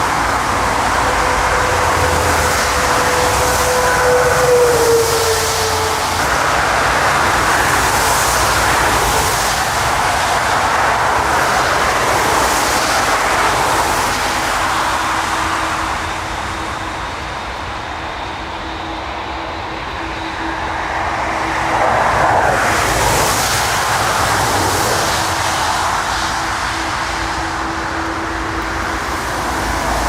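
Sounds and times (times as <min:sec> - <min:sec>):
jet engine and air rush: 0:00.0 - 0:30.0.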